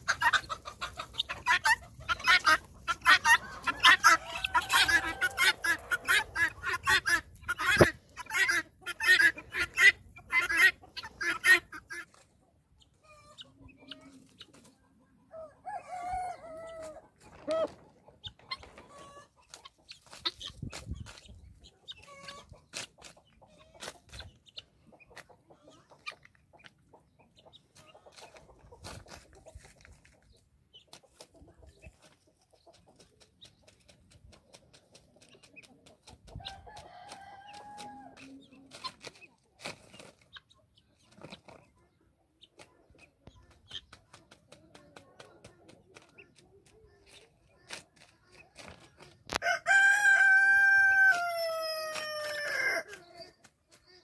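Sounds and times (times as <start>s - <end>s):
rooster and guinea fowl calling: 0.0s - 30.2s, 35.2s - 41.6s, 47.1s - 54.0s.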